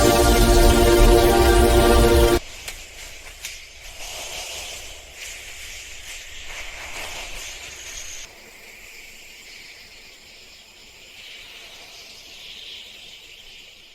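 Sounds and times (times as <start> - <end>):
steady hissing background noise: 2.2 - 13.9.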